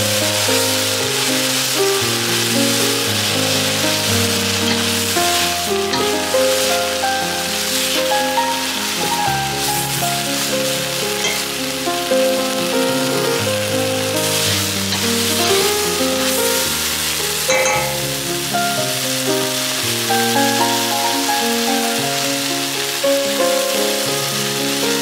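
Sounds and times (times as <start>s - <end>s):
background music: 0.0s - 25.0s
kale sizzling in a pot: 0.0s - 25.0s.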